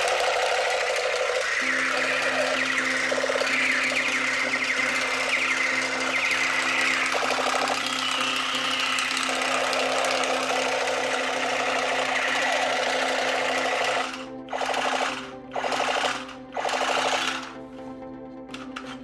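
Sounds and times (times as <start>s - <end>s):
toy motor whirring: 0.0s - 17.6s, 18.5s - 19.0s.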